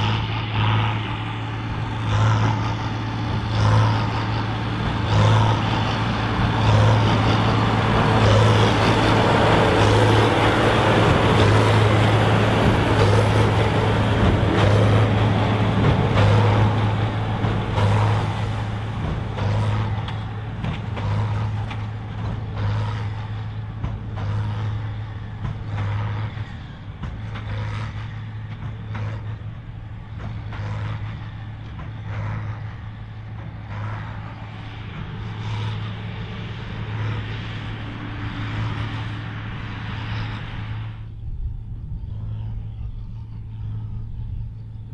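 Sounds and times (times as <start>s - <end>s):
tractor diesel engine droning: 0.0s - 44.9s.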